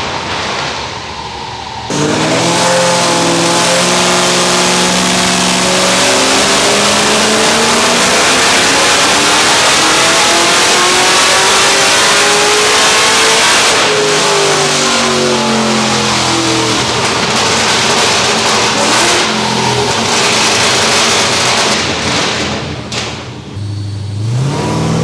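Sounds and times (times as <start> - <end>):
engine revving hard: 1.9 - 25.0.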